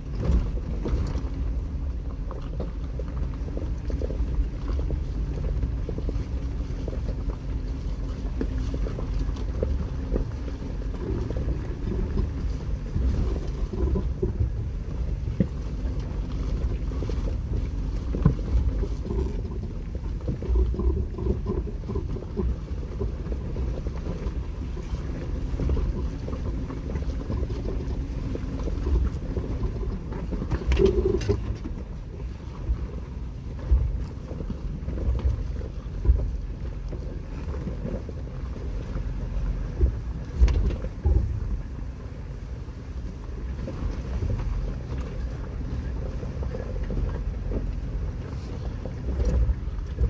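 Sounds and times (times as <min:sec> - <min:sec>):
engine and drivetrain rumble: 0:00.0 - 0:50.0.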